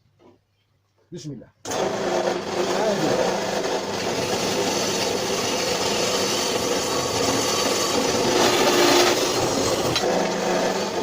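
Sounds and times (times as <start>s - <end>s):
electric saw cutting metal: 1.7s - 11.0s.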